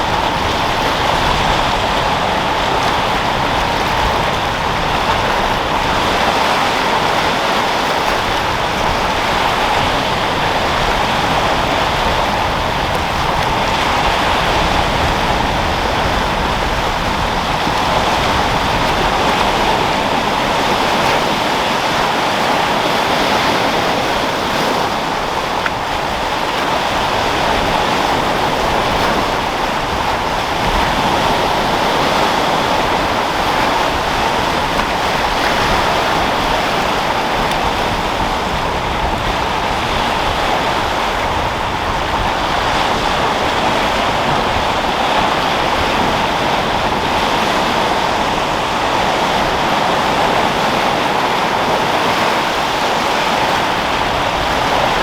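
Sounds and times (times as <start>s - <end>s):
sea waves breaking: 0.0s - 55.0s
wind: 0.0s - 55.0s.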